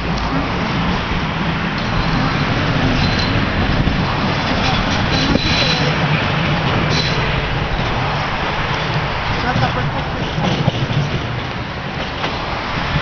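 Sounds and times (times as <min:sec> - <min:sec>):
road traffic: 0:00.0 - 0:13.0
tram wheels rumbling on rails: 0:00.0 - 0:13.0.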